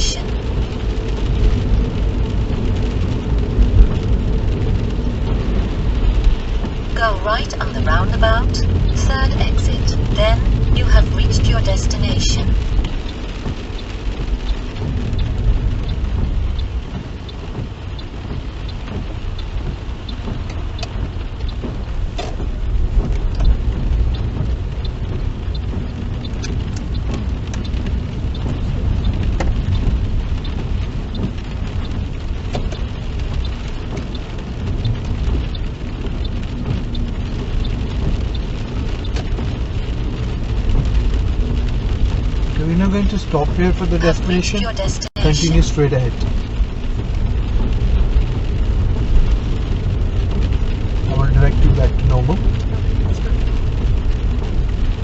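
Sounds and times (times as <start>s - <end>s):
rain pattering on car roof: 0.0s - 55.0s
road and engine rumble: 0.0s - 55.0s
sharp raindrops ticking: 0.0s - 55.0s.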